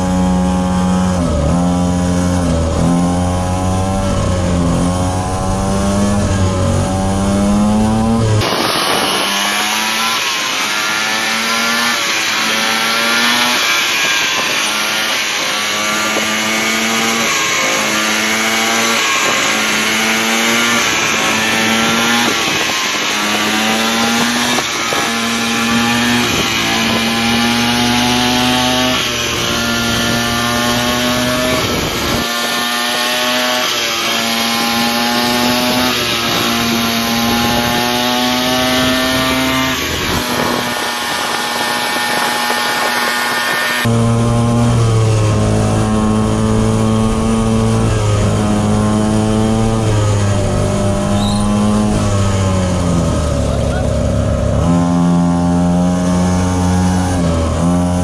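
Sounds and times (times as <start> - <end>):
small two-stroke engine revving: 0.0 - 58.0.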